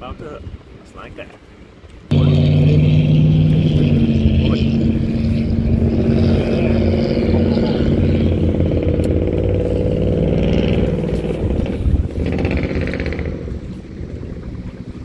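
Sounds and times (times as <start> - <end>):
outboard boat motor running: 0.4 - 15.0.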